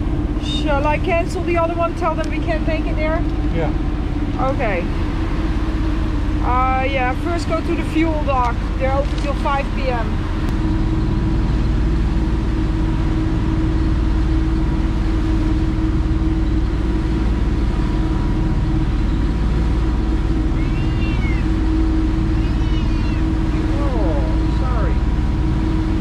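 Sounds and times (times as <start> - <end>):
boat engines droning: 0.0 - 26.0.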